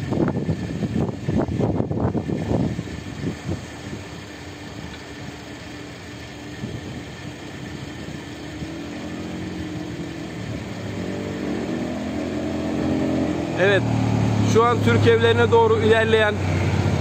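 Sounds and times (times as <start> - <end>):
vehicle engine approaching: 0.0 - 17.0.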